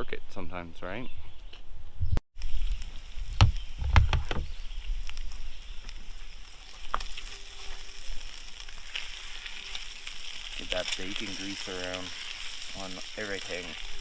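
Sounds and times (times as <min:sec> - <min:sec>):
bacon and potatoes sizzling: 0:02.4 - 0:14.0.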